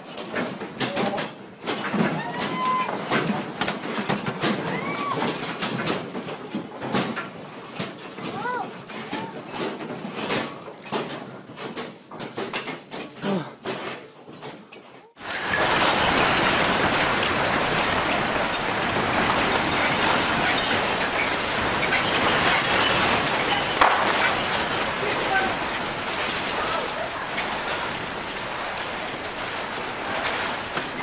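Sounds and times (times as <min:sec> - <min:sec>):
office objects rattling: 0:00.0 - 0:31.0.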